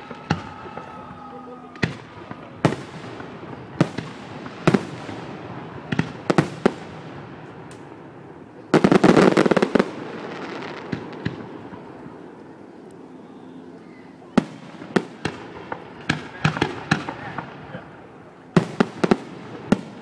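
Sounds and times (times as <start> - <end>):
fireworks bangs: 0.0 - 12.3, 14.3 - 20.0
fireworks crackling: 0.0 - 20.0.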